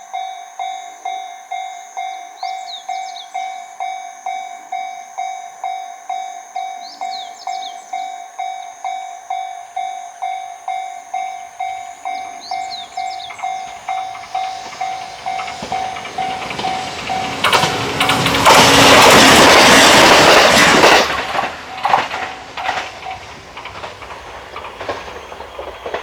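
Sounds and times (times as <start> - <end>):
approaching train: 1.5 - 26.0.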